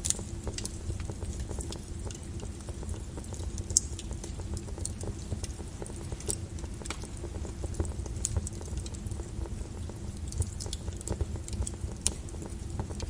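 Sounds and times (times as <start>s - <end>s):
fire crackling with pops: 0.0s - 13.0s.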